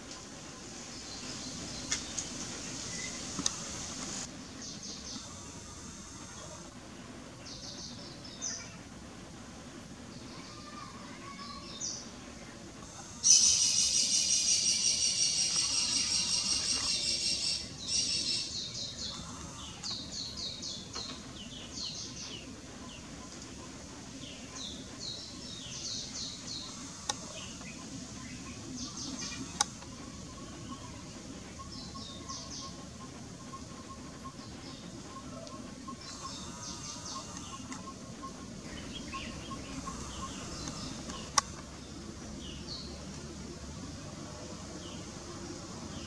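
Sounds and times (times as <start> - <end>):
steady outdoor hiss: 0.0 - 46.0
birds chirping: 0.4 - 6.7, 12.8 - 46.0.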